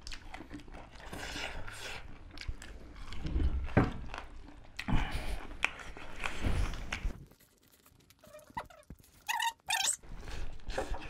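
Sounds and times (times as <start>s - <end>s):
people biting and chewing meat: 0.0s - 11.0s.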